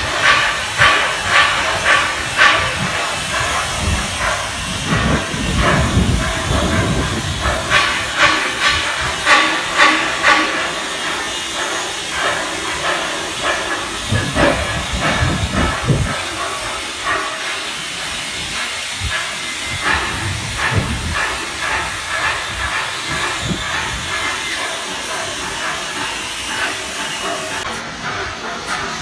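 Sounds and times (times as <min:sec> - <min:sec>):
loud steady hiss: 0:00.0 - 0:29.0.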